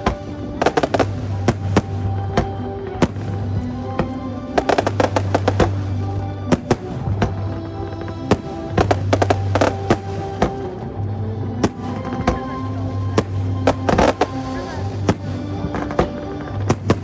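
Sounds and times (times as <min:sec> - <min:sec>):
fireworks bangs and crackles: 0:00.0 - 0:11.0, 0:11.6 - 0:17.0
background music: 0:00.0 - 0:17.0.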